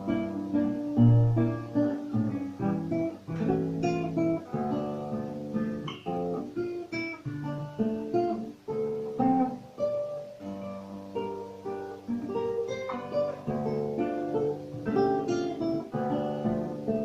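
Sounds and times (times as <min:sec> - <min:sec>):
acoustic guitar folk melody: 0:00.0 - 0:17.0.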